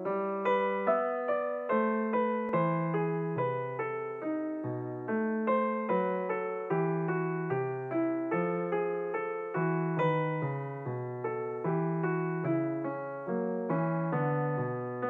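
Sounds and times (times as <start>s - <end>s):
light keyboard tune: 0.0s - 15.0s.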